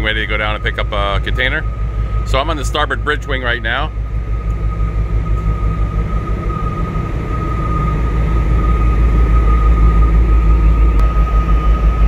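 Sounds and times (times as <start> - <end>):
high-pitched whine: 0.0 - 12.0
low machinery rumble: 0.0 - 12.0.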